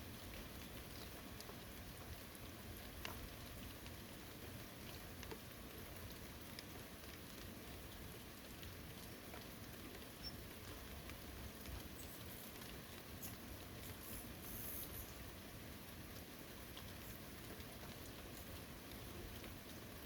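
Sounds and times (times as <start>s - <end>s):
light rain falling in forest: 0.0s - 20.0s.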